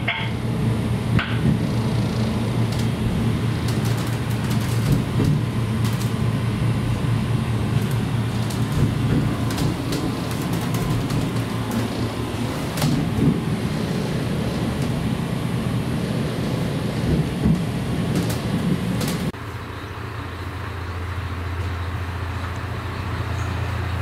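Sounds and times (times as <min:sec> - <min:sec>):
diesel railcar engine rumble: 0:00.0 - 0:24.0.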